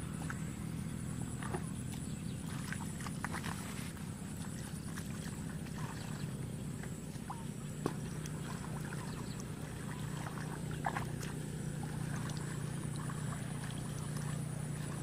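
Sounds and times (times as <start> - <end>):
low hum: 0.0 - 15.0
hands splashing in muddy water: 1.2 - 15.0.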